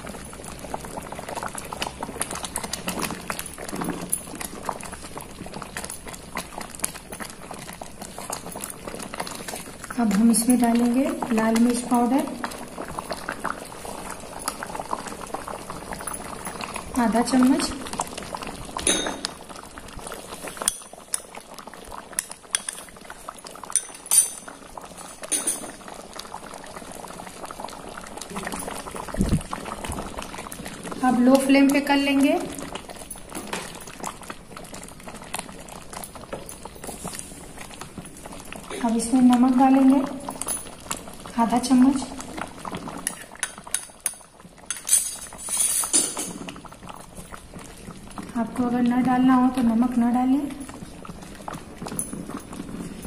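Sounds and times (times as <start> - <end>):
syrup bubbling in a pot: 0.0 - 53.0.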